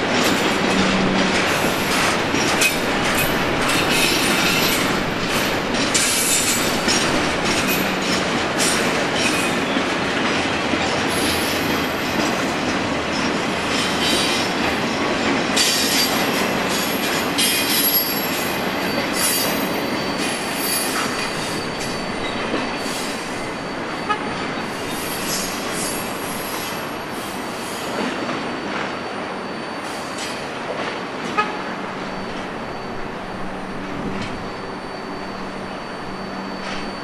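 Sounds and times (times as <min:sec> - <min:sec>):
train rolling on rails: 0:00.0 - 0:37.0.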